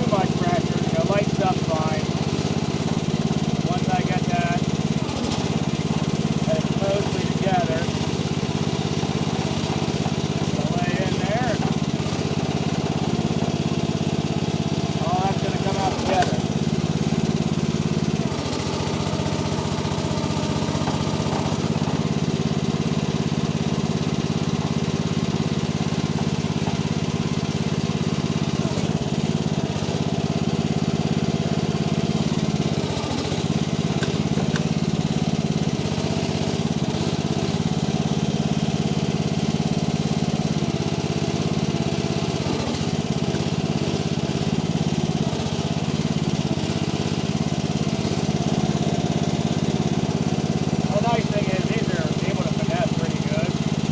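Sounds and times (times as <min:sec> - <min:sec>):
excavator engine running: 0:00.0 - 0:53.9.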